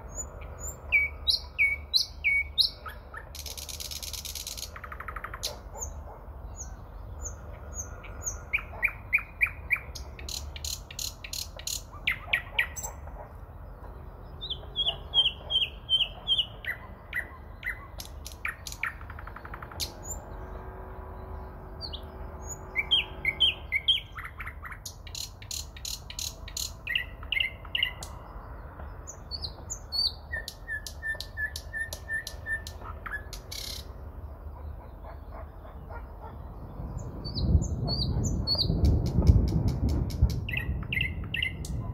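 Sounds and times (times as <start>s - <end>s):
nightingale singing: 0.0s - 20.6s, 21.2s - 41.9s.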